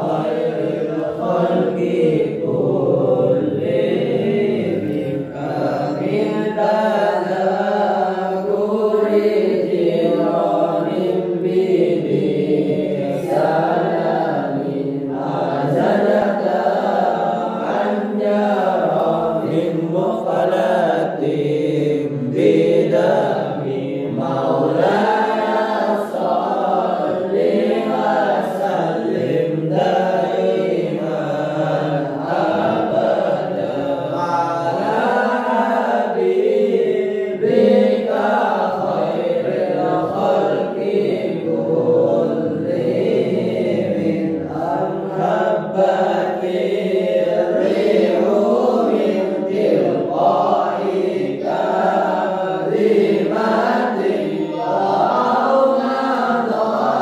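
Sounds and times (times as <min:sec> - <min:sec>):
boys chanting: 0:00.0 - 0:57.0.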